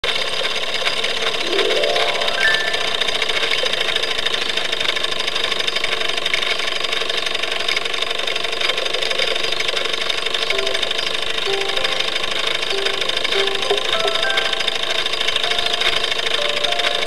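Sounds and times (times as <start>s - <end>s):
toy steam engine clattering: 0.0s - 17.0s.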